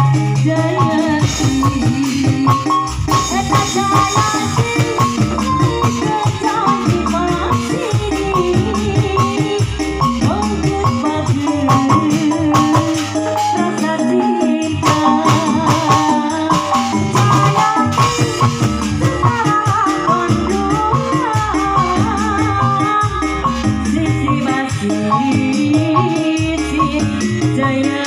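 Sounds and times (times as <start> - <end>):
bass line: 0.0 - 28.0
instrumental band music: 0.0 - 28.0
rattling percussion: 0.0 - 28.0.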